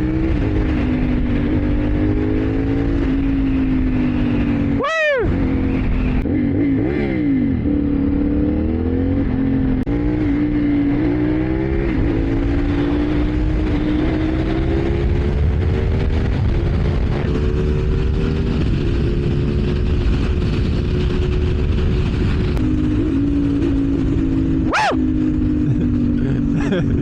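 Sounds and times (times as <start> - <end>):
wind rush on microphone: 0.0 - 8.1, 9.2 - 27.0.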